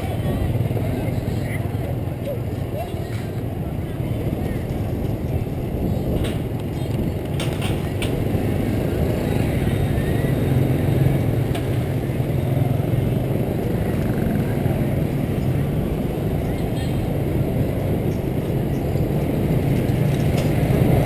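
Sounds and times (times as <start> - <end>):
motorbike traffic rumble: 0.0 - 21.0.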